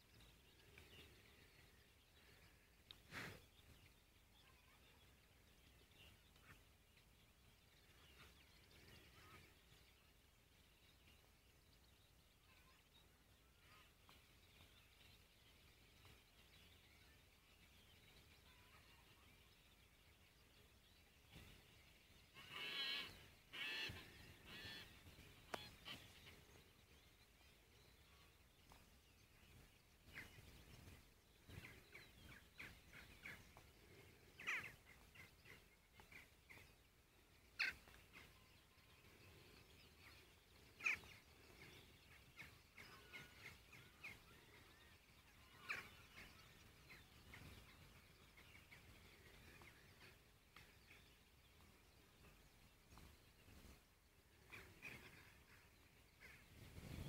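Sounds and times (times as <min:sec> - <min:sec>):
birds calling: 0:00.0 - 0:57.0
faint outdoor background: 0:00.0 - 0:57.0.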